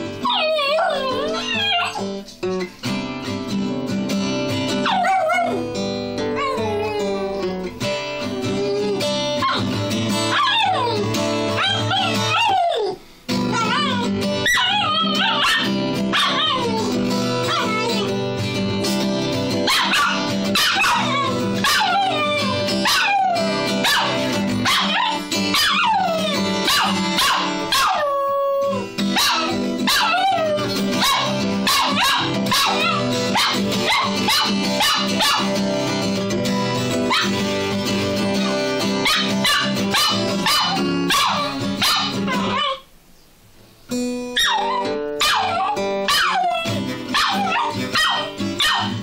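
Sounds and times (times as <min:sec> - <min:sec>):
acoustic guitar strumming: 0:00.0 - 0:43.1, 0:43.7 - 0:49.0
dog howling: 0:00.2 - 0:02.2, 0:04.8 - 0:18.1, 0:19.7 - 0:35.5, 0:39.0 - 0:42.8, 0:44.4 - 0:49.0.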